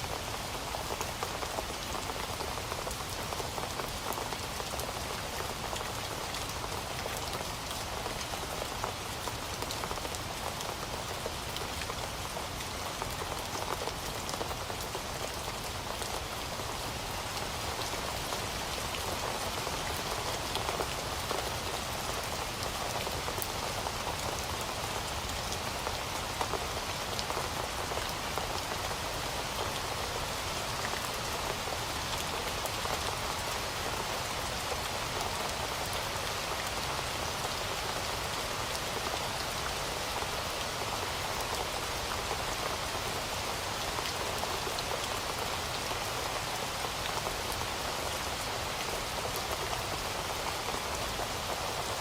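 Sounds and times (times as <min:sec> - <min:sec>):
heavy rain on hard surface: 0:00.0 - 0:52.0.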